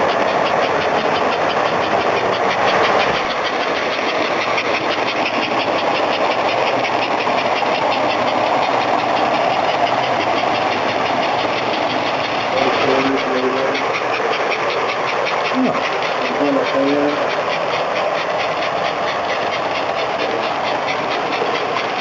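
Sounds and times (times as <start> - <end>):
fast even clicking of wheels: 0.0 - 22.0
model train motor whirring: 0.0 - 22.0.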